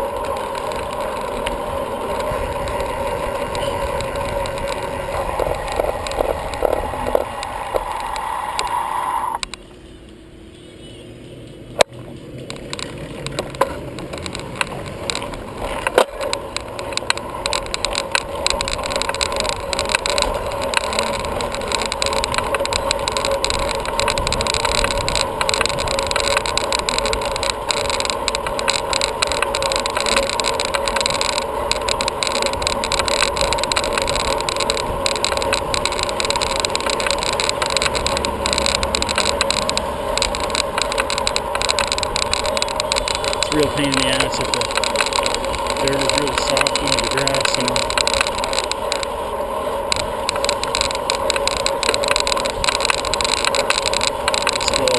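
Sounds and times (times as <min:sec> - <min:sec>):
bicycle wind and tyre noise: 0:00.0 - 0:54.9.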